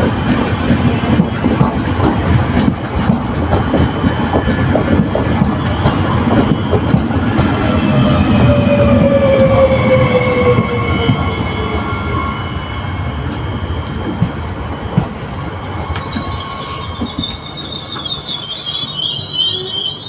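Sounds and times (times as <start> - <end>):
train rumble and falling whine: 0.0 - 20.0
train brake and wheel squeal: 3.6 - 20.0.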